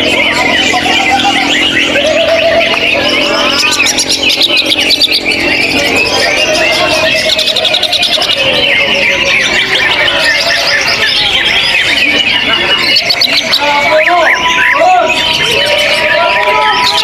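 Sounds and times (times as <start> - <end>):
people's voices: 0.0 - 17.0
songbirds singing: 0.0 - 17.0.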